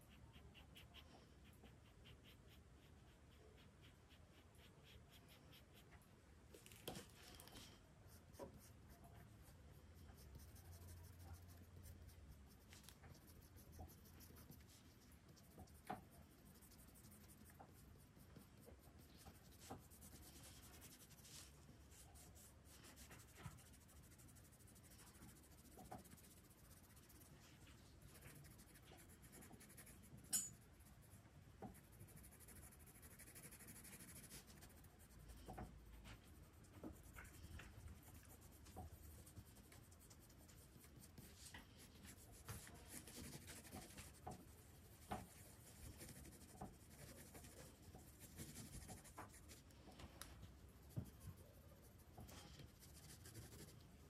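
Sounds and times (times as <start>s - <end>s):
pencil scratching on paper: 0.0s - 6.0s, 7.6s - 49.7s, 50.7s - 53.9s.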